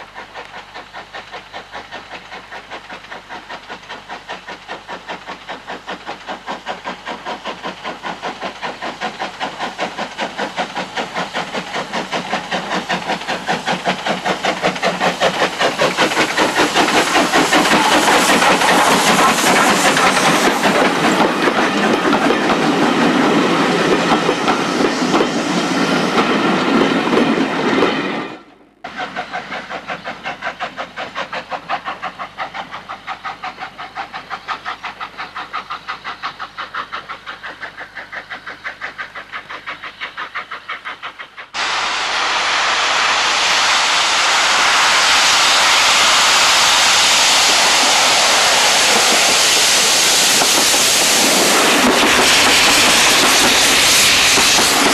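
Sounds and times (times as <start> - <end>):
steam locomotive running past: 0.0 - 54.9.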